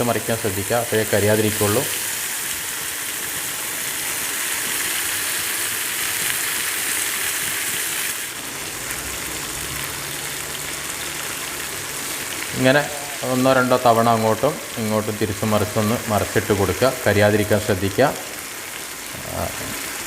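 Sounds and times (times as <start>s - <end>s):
chicken sizzling in a pan: 0.0s - 20.0s.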